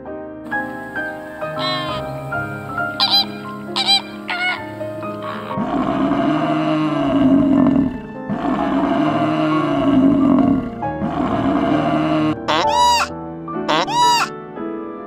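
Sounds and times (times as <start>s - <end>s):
background music: 0.0s - 15.0s
water buffalo bellowing: 0.6s - 13.1s, 13.7s - 14.3s.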